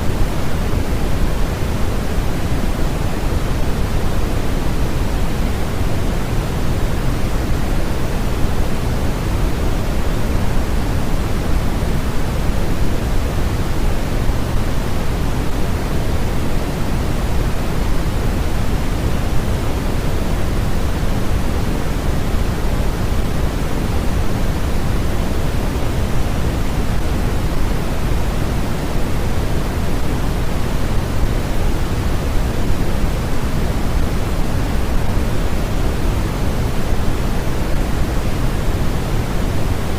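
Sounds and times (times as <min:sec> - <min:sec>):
steady generated noise hiss: 0:00.0 - 0:39.9.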